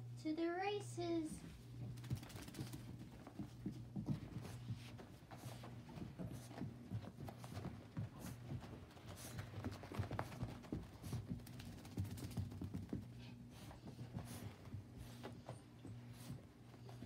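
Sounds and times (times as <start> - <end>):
steady low hum: 0.0 - 17.0
dog paws scrabbling on carpet: 1.3 - 17.0.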